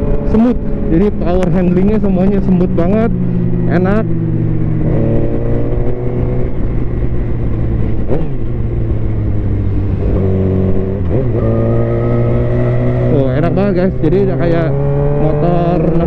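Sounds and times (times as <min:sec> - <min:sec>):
low wind rumble: 0:00.0 - 0:16.0
motorcycle engine running: 0:00.0 - 0:16.0.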